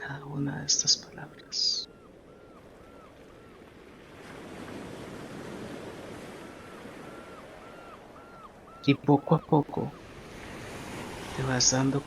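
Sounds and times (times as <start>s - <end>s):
sea waves breaking on shore: 0.7s - 12.0s.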